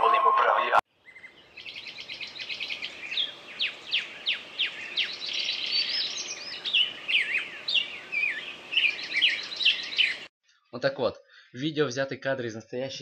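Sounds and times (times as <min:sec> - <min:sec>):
songbirds singing: 0:00.9 - 0:11.8.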